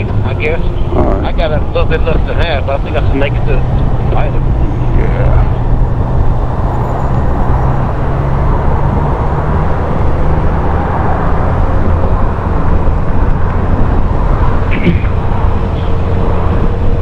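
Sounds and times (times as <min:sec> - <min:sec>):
motorcycle engine drone: 0:00.0 - 0:17.0
rushing wind: 0:00.0 - 0:17.0.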